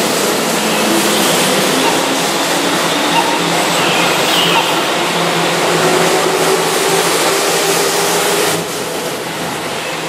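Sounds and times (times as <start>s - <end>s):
electric train passing: 0.0s - 10.0s.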